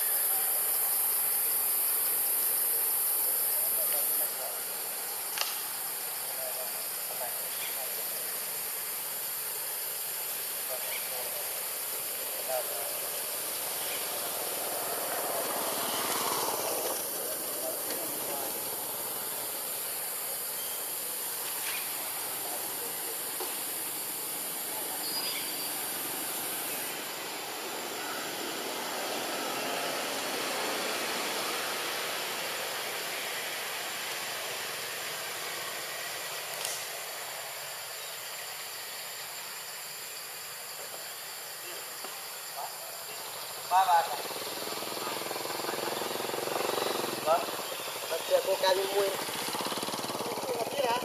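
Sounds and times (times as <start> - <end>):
higher hiss: 0.0 - 51.0
outdoor background hiss: 0.0 - 51.0.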